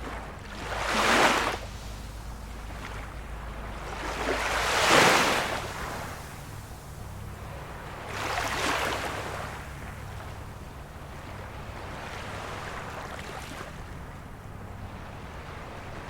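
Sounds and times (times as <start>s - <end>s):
small sea waves washing in: 0.0s - 16.0s.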